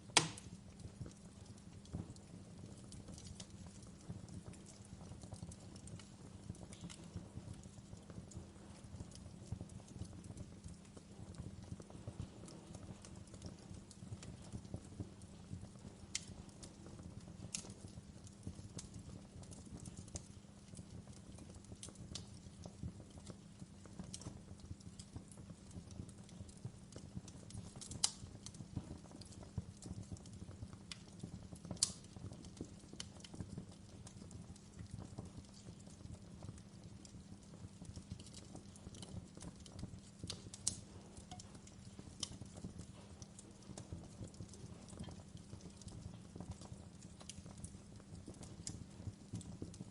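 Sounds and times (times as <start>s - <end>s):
fire crackles and pops: 0.0s - 49.9s
wood fire rumbling: 0.0s - 49.9s.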